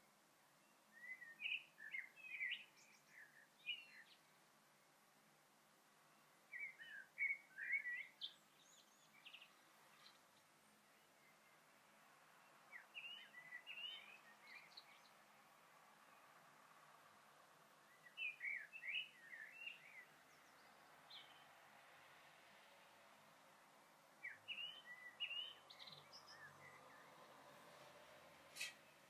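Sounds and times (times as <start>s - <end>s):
faint hiss: 0.0s - 29.0s
songbird singing: 0.0s - 29.0s.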